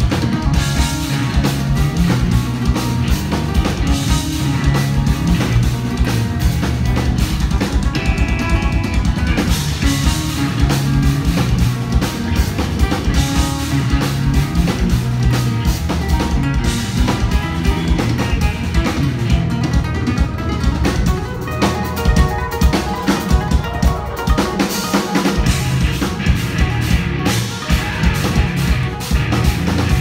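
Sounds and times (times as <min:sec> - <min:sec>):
electric guitars: 0:00.0 - 0:30.0
rapid drumming on drum kit: 0:00.0 - 0:30.0.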